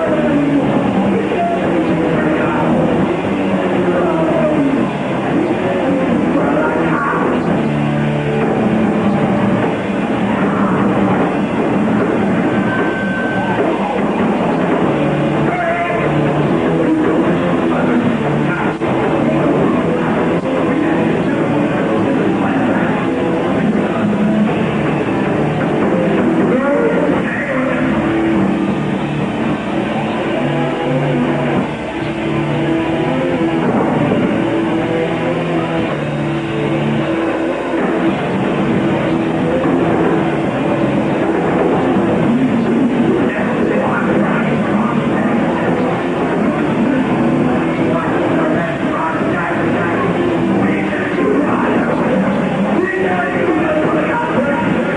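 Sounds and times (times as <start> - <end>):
bass guitar: 0.0 - 54.9
distorted electric guitar: 0.0 - 54.9
drums: 0.0 - 54.9
rock band playing live: 0.0 - 54.9.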